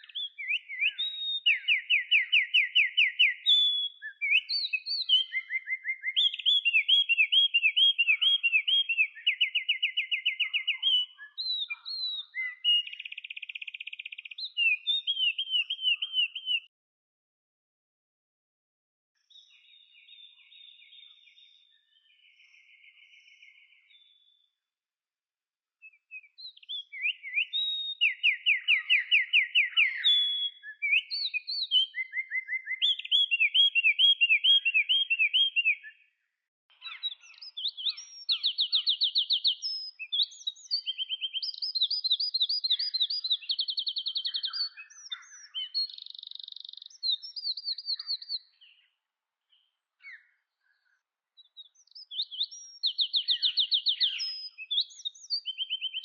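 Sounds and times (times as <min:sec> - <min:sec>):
songbird singing rapid trills: 0:00.0 - 0:16.7, 0:25.8 - 0:36.1, 0:36.7 - 0:56.0.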